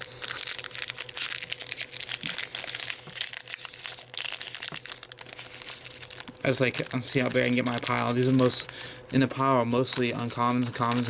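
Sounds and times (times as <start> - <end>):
cards and wrappers rustling: 0.0 - 11.0
faint steady hum: 0.0 - 11.0.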